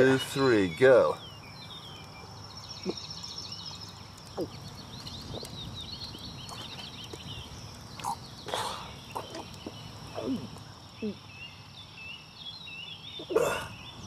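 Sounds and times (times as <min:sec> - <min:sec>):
birds chirping: 0:00.0 - 0:14.0
insect hum: 0:00.0 - 0:14.0.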